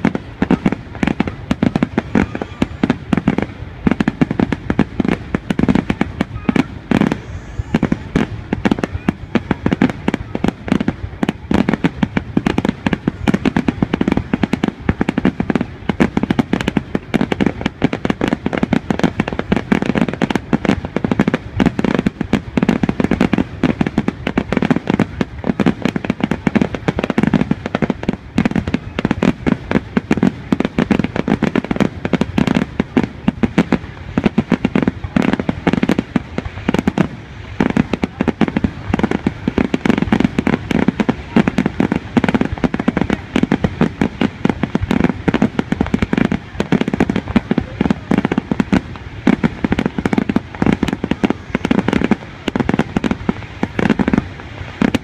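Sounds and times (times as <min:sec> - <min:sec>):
fireworks bursting with loud bangs: 0:00.0 - 0:55.0.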